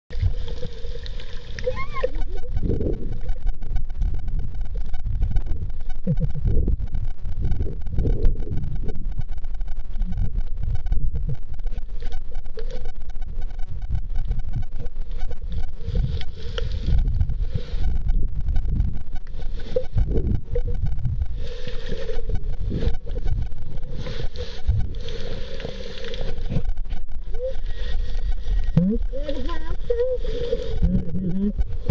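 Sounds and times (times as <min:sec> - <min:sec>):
muffled underwater water rumbling: 0:00.1 - 0:31.9.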